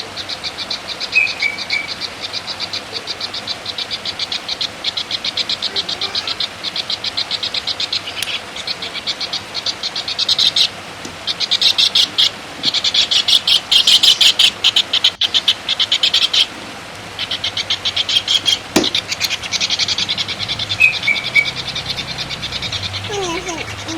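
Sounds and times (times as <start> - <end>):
songbird chattering trill: 0.0 - 16.5, 17.2 - 23.9.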